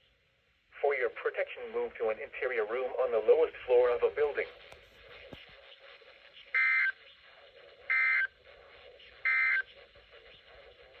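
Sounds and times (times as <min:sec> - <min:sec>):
faint radio hiss: 0:00.0 - 0:11.0.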